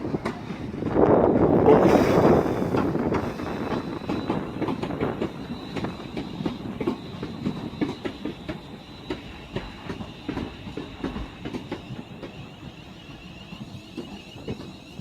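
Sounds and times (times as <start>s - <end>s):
train wheels clicking over rail joints: 1.7s - 15.0s.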